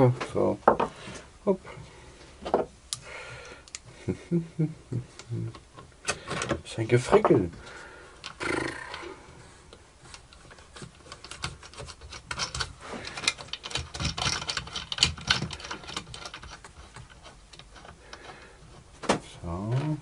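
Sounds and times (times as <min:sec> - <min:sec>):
small clicks and wooden knocks: 0:00.2 - 0:01.0, 0:02.4 - 0:03.9, 0:05.0 - 0:09.1, 0:09.7 - 0:20.0.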